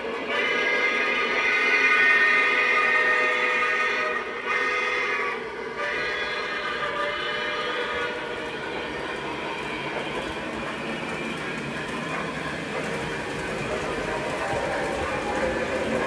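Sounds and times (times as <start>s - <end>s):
model locomotive sound effects: 0.0s - 16.0s
model train rolling rumble: 0.0s - 16.0s.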